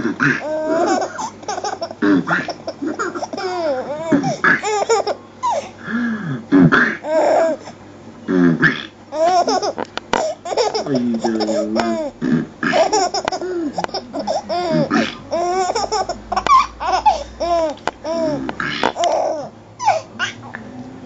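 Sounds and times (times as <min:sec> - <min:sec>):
baby laughing and giggling: 0:00.2 - 0:05.7, 0:07.0 - 0:07.6, 0:09.1 - 0:20.4.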